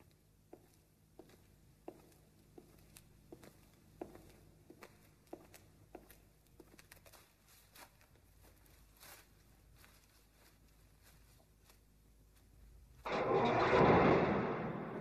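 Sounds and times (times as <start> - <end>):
faint low hum: 0.0 - 15.0
faint footsteps on pavement: 0.5 - 12.8.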